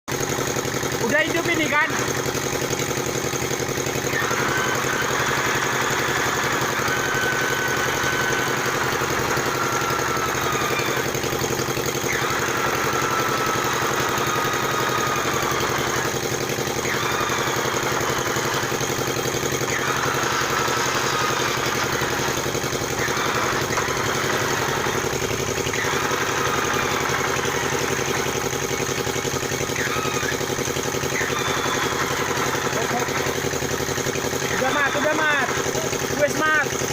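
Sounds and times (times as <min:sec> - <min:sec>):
engine idling: 0:00.1 - 0:36.9.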